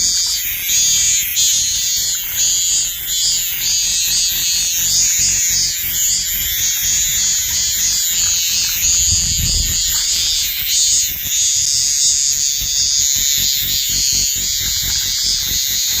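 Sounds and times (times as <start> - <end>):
chorus of calling frogs: 0.0 - 16.0.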